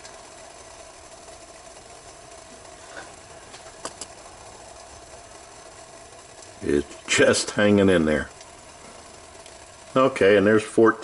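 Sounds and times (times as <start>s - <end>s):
small pops: 0.0s - 7.7s, 8.3s - 9.9s
burner hissing: 0.0s - 11.0s.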